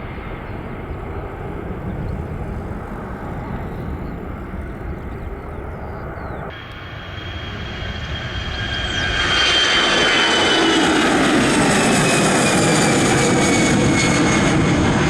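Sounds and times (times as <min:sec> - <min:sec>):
jet engines passing: 0:00.0 - 0:15.0.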